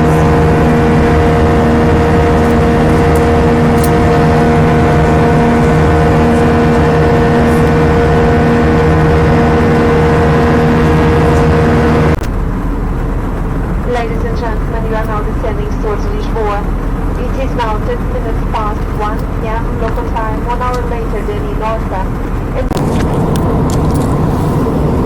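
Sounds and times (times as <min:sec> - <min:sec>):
constant whine: 0:00.0 - 0:25.0
jet engines and airflow: 0:00.0 - 0:25.0.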